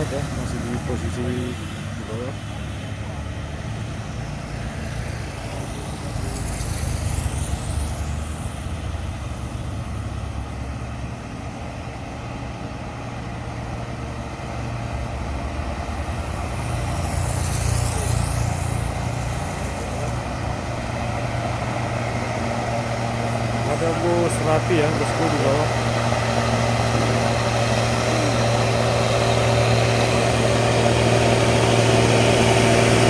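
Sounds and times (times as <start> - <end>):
truck engines rumbling: 0.0 - 33.0
vehicles passing close by: 0.0 - 33.0.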